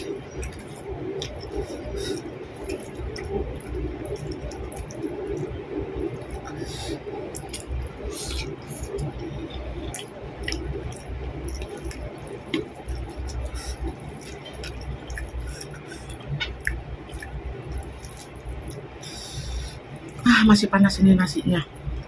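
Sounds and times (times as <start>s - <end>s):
fingers mixing wet rice: 0.0s - 19.3s
chewing and lip smacking: 0.0s - 20.2s.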